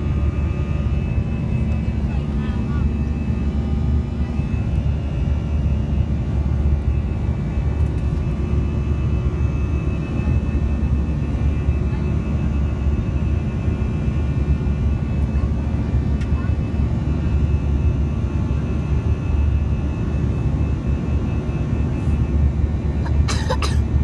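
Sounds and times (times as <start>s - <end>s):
jet cabin engine rumble: 0.0s - 24.0s.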